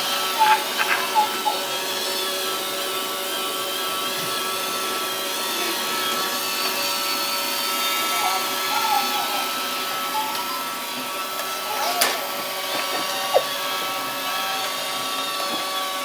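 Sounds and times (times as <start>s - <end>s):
robot vacuum motor whine: 0.0s - 16.0s.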